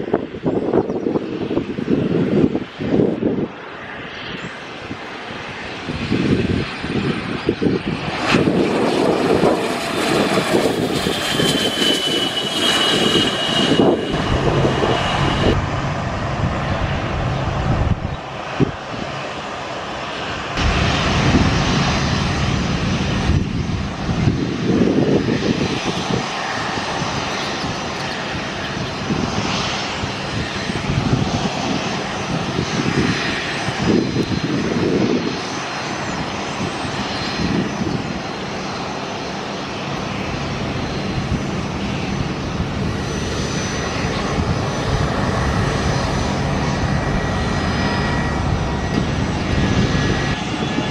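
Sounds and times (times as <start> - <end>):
jet taxiing on idling engines: 0.0 - 50.9
jet turbine whine: 0.0 - 50.9.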